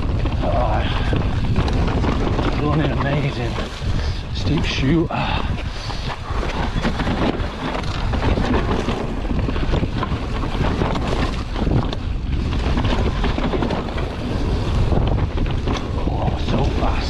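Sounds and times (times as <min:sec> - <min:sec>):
bike clattering over bumps: 0:00.0 - 0:17.0
tyres rumbling over dirt: 0:00.0 - 0:17.0
wind rushing over microphone: 0:00.0 - 0:17.0.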